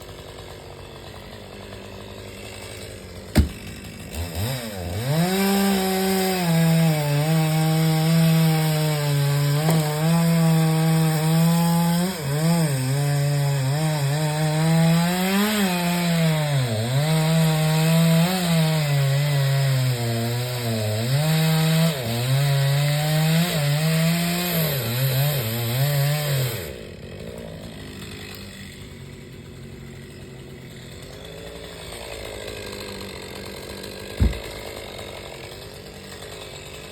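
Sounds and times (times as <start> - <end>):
chainsaw cutting wood: 0.0 - 36.9.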